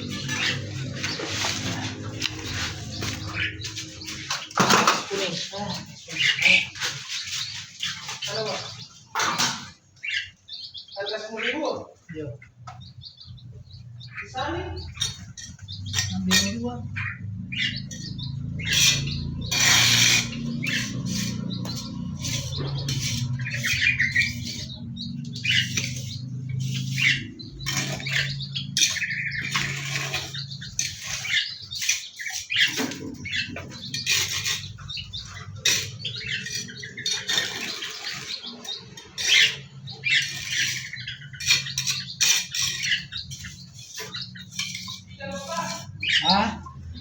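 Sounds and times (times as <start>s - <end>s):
birds squawking and chirping: 0.0s - 47.0s.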